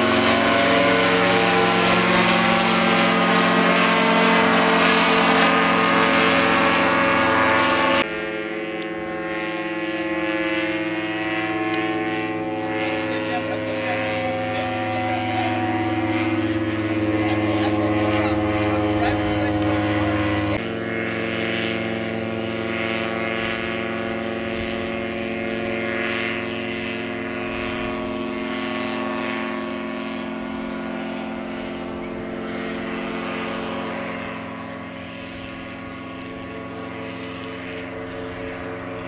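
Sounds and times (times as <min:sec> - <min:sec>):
ultralight plane engine droning: 0:00.0 - 0:39.0.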